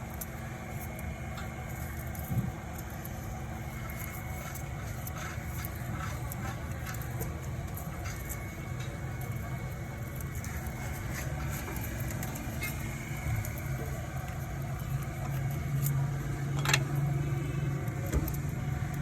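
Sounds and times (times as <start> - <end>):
thin steady whine: 0.0 - 19.0.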